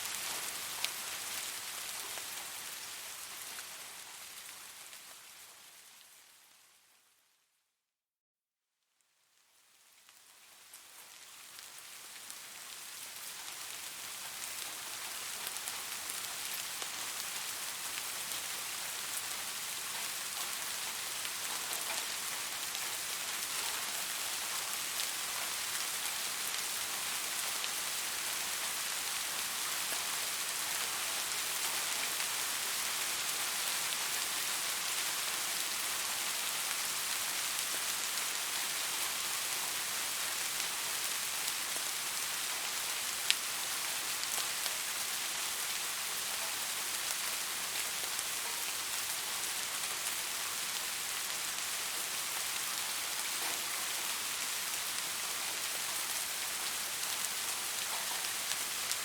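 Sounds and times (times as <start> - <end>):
steady rain falling: 0.0 - 7.4, 9.0 - 59.0.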